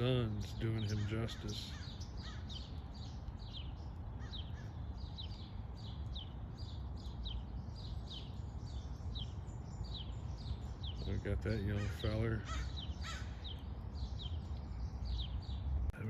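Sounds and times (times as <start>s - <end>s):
low background rumble: 0.0s - 16.0s
small bird chirping: 0.0s - 16.0s.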